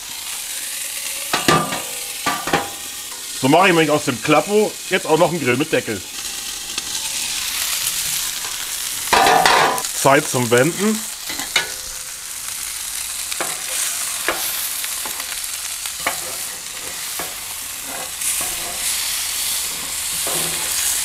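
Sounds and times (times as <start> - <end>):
burger patties sizzling on griddle: 0.0 - 21.0.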